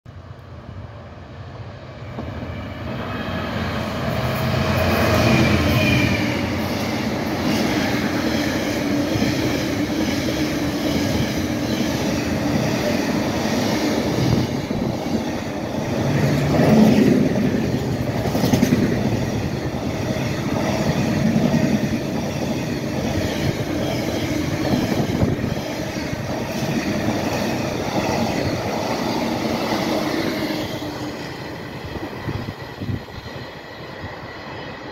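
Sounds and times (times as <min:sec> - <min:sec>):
diesel locomotive engine: 0:00.1 - 0:34.9
train wagons rumbling over rails: 0:01.8 - 0:34.9.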